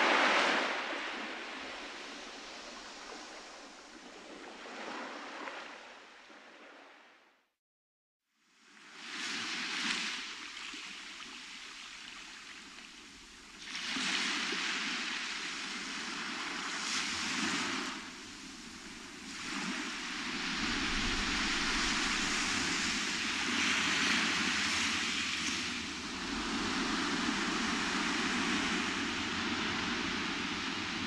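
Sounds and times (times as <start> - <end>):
small waves breaking on beach: 0.0 - 7.1, 8.5 - 31.0.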